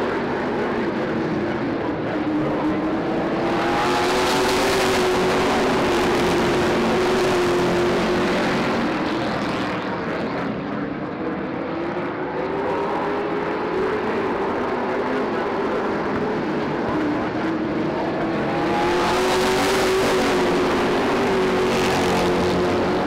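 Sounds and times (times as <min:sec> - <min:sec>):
race cars racing past: 0:00.0 - 0:23.0.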